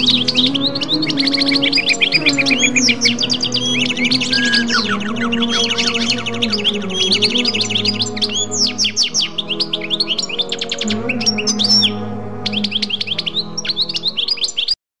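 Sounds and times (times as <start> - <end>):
musical drone of low tones: 0.0 - 14.4
birds chirping: 0.0 - 14.8.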